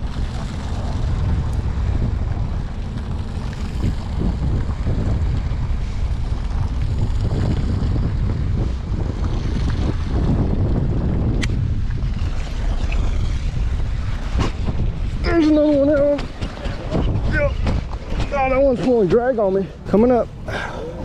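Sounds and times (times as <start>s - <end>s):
choppy water washing: 0.0s - 21.0s
wind buffeting microphone: 0.0s - 21.0s.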